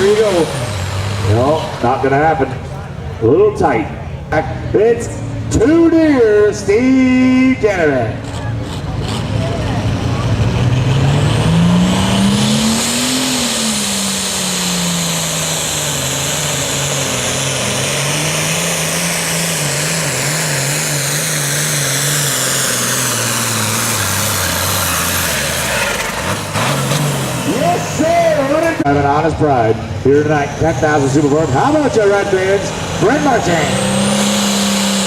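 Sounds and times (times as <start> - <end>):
tractor engine revving under load: 0.0 - 35.0.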